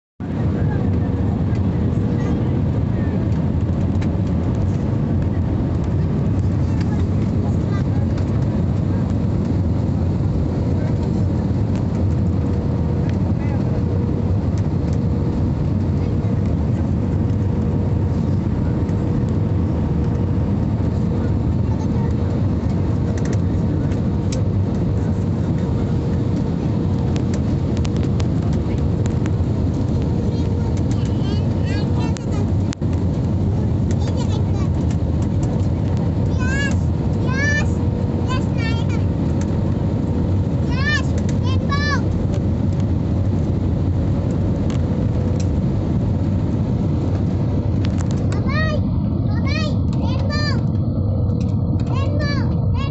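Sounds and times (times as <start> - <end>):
deep roar of jet engines and airflow: 0.0 - 52.9.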